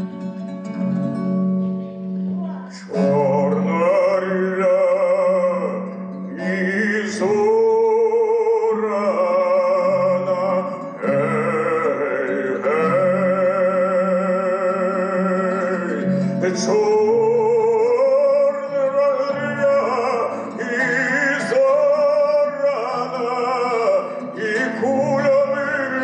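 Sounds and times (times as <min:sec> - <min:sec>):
plucked lute strings: 0:00.0 - 0:26.0
man singing with vibrato: 0:02.7 - 0:26.0.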